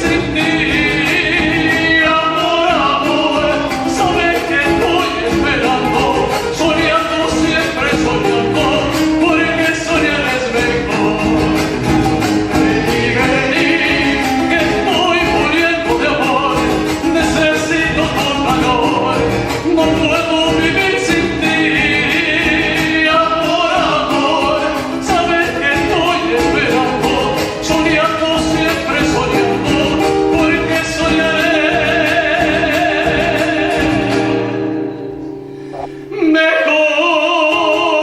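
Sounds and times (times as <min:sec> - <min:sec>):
instrumental accompaniment with beat: 0:00.0 - 0:34.2, 0:34.9 - 0:36.3
folk song singing: 0:00.0 - 0:38.0.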